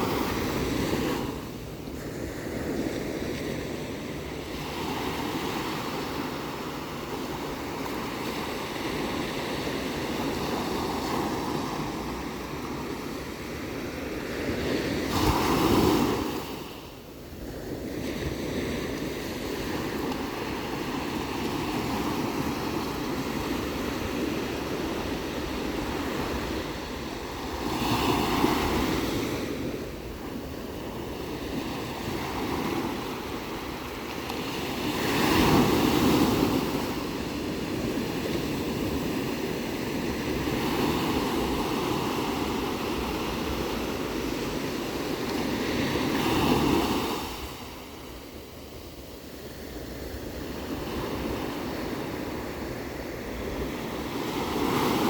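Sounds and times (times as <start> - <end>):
big waves breaking: 0.0 - 55.0
waves washing: 0.0 - 55.0.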